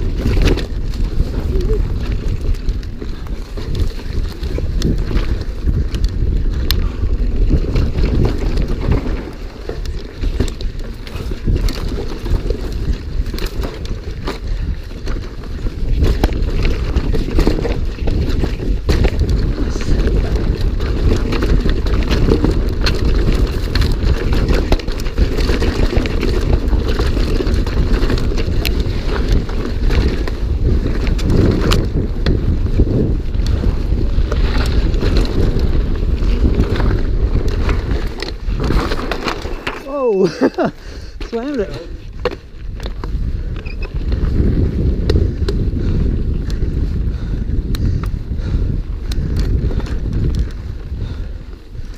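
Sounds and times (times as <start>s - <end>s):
bike clicks and rattles: 0.0s - 51.9s
wind buffeting microphone: 0.0s - 51.9s.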